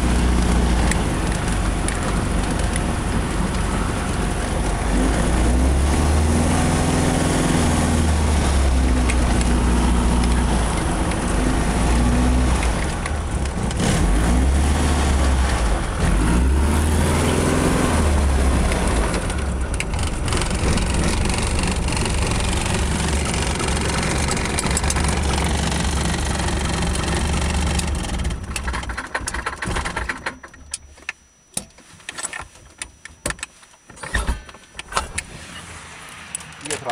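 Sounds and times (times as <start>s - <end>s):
light aircraft engine running: 0.0s - 6.3s, 6.9s - 30.2s.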